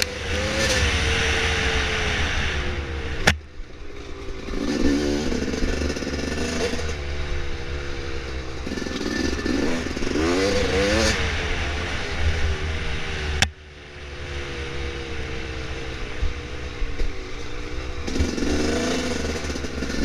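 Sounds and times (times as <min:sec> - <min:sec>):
dirt bike engine revving: 0:00.0 - 0:13.5, 0:14.1 - 0:20.0.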